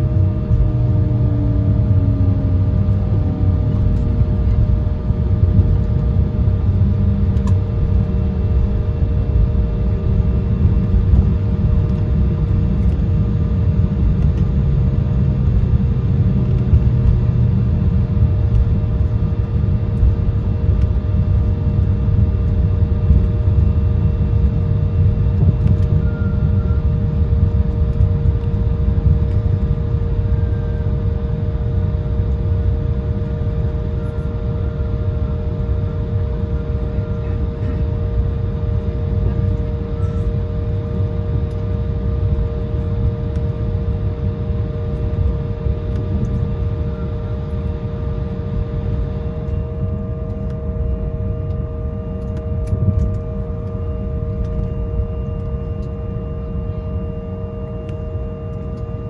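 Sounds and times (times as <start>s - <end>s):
jet engines low rumble: 0.0s - 59.0s.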